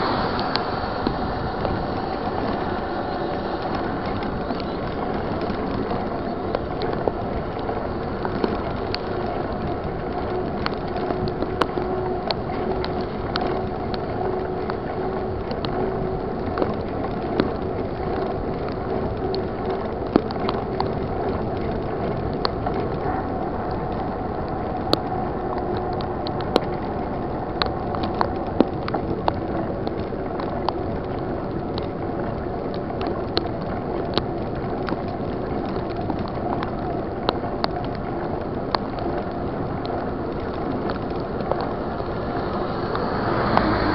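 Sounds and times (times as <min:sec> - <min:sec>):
bicycle tyres on wet road: 0:00.0 - 0:43.9
heavy rain: 0:00.0 - 0:43.9.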